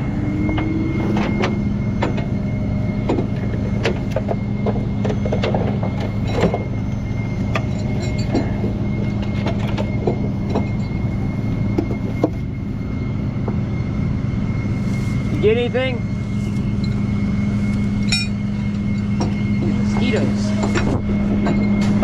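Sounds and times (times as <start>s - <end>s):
high-pitched buzz: 0.0s - 22.0s
truck engine idling: 0.0s - 22.0s.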